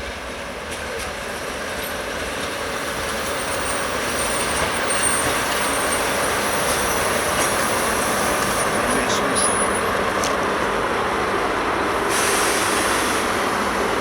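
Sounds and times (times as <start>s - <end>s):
diesel train rumbling: 0.0s - 14.0s.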